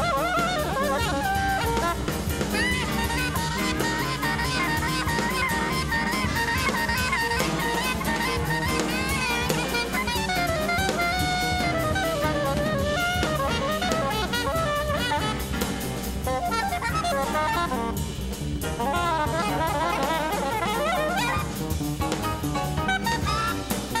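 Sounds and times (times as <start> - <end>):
jazz band with drum kit: 0.0 - 24.0
soprano saxophone solo: 0.0 - 24.0.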